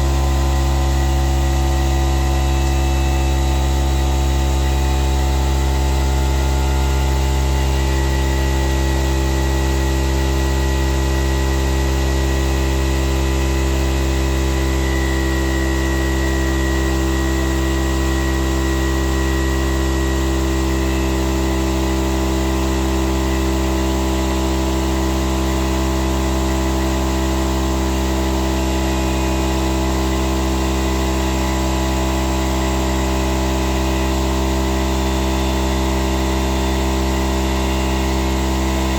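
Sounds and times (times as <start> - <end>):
air compressor humming: 0.0 - 38.9.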